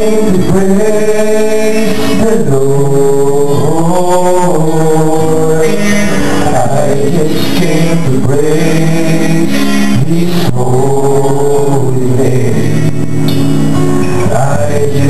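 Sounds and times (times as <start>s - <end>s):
male vocal group singing: 0.0s - 13.0s, 14.2s - 15.0s.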